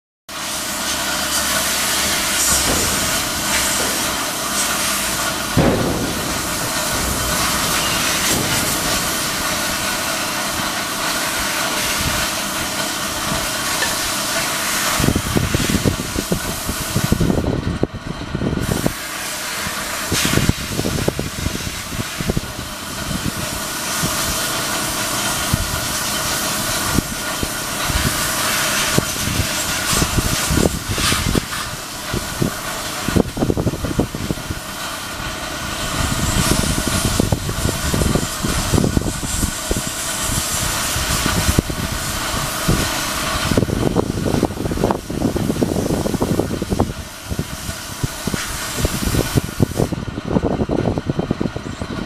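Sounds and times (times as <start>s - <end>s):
wind noise on microphone: 2.0s - 14.2s, 14.8s - 52.0s.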